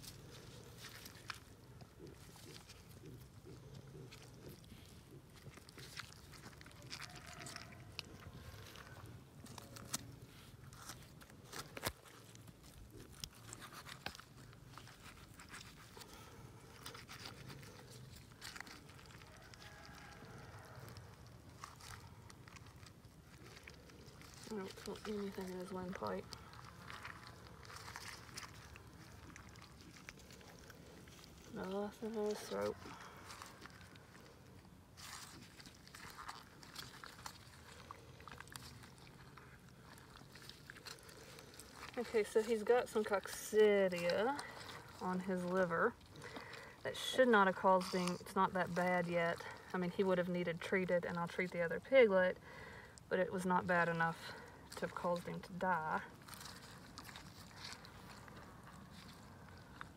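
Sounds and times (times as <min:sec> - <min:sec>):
wet crunching and clicking: 0:00.0 - 0:59.9.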